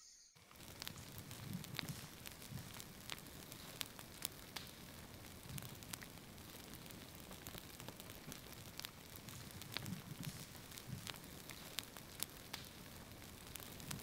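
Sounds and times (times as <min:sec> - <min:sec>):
faint fire hiss: 0:00.4 - 0:14.0
fire crackling and popping: 0:00.4 - 0:14.0.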